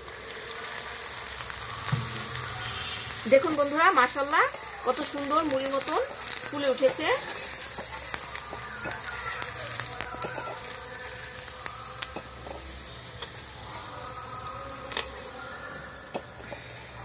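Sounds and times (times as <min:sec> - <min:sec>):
rice sizzling in hot oil: 0:00.0 - 0:17.0.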